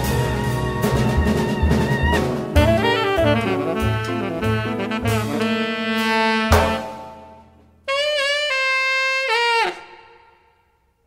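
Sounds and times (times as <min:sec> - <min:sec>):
jazz music: 0:00.0 - 0:10.4.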